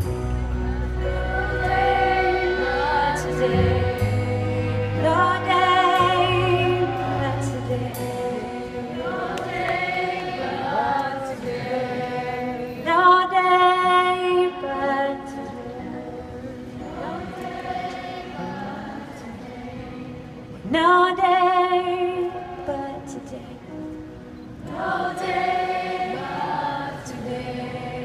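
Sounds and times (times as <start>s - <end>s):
quiet band accompaniment: 0.0s - 28.0s
woman singing into microphone: 1.0s - 24.0s.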